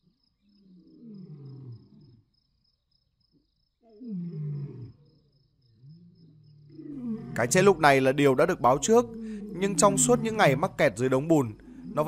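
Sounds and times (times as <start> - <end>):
lion growling: 0.7 - 2.2, 3.8 - 12.0.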